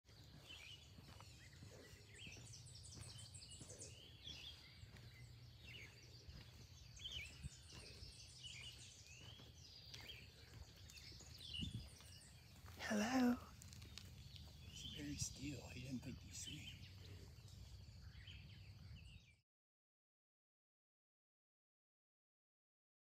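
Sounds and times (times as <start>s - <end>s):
birds chirping: 0.1s - 19.4s.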